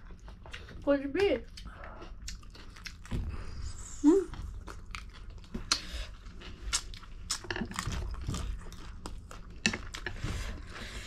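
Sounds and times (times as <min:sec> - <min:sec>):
chewing and slurping noodles: 0:01.5 - 0:11.0.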